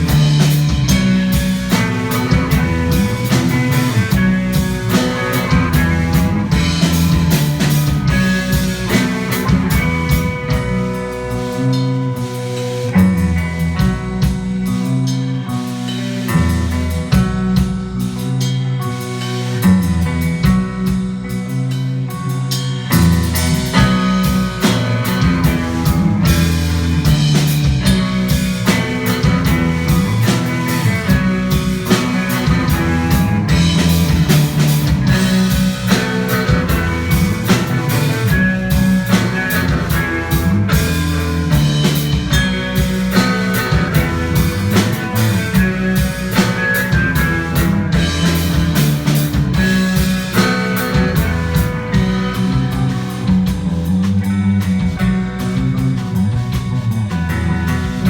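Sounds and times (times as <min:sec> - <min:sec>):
rock music with guitar and drums: 0:00.0 - 0:58.0.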